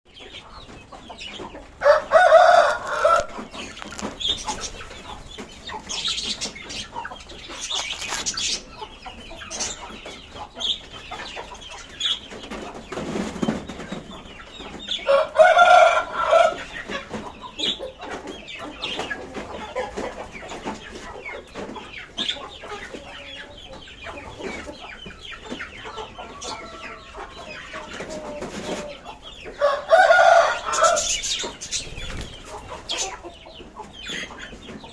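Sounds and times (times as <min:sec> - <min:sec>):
budgies and lovebirds chirping: 0:00.1 - 0:34.9.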